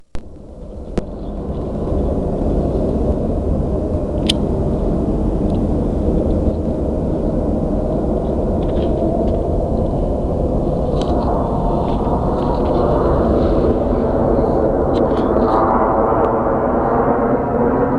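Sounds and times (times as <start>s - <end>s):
low rumble: 0.0s - 17.9s.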